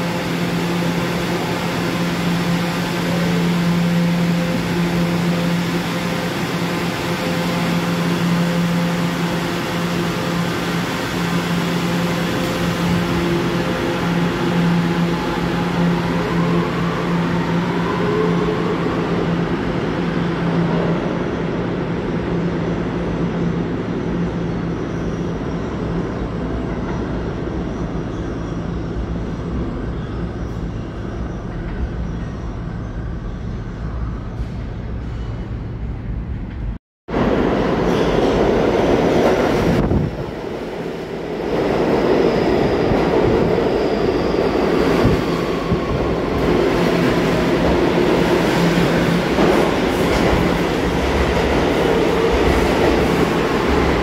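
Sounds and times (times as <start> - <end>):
subway train accelerating: 0.0 - 54.0.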